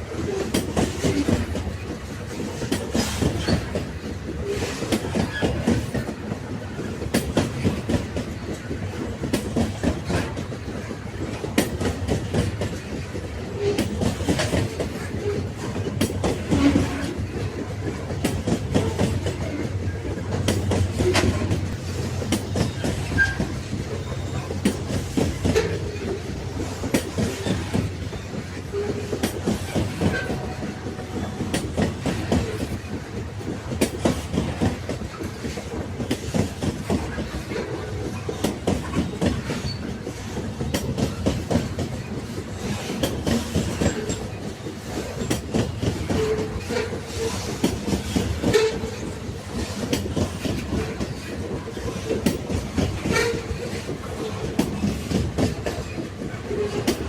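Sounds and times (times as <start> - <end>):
railway wagons rumbling: 0.0 - 57.0
wheels clacking over rail joints: 0.3 - 57.0.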